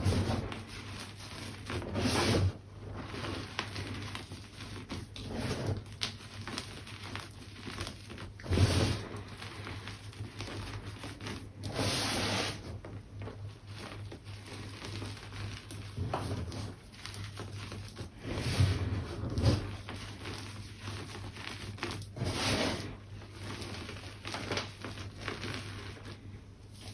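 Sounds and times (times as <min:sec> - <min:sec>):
chalk crumbling by hand: 0:00.0 - 0:26.9.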